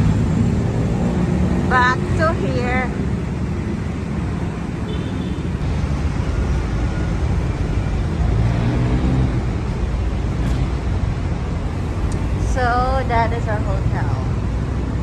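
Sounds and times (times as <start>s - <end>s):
heavy engine hum: 0.0s - 15.0s
passing cars rumble: 0.0s - 15.0s.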